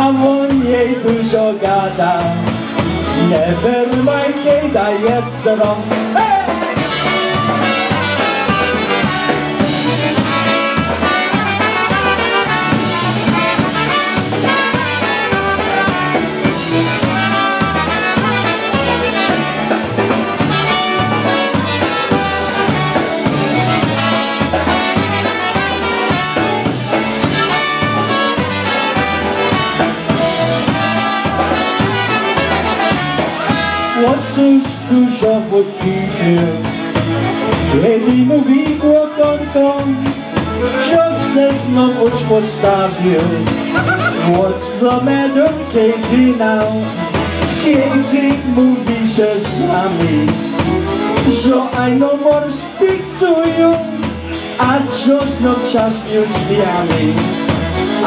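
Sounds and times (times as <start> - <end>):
concertina: 0.0 - 58.0
drums: 0.0 - 58.0
electric bass: 0.0 - 58.0
trumpet melody: 0.0 - 58.0
piano accordion: 2.2 - 58.0.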